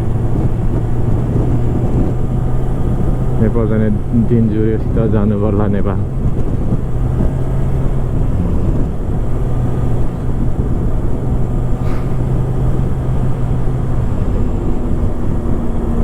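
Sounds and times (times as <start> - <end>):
motorcycle engine cruising: 0.0 - 16.0
wind rumble on microphone: 0.0 - 16.0.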